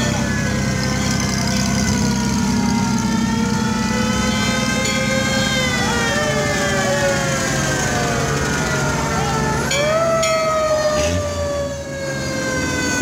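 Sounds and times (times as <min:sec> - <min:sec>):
fire engine sirens wailing: 0:00.0 - 0:13.0
truck engines driving past: 0:00.0 - 0:13.0.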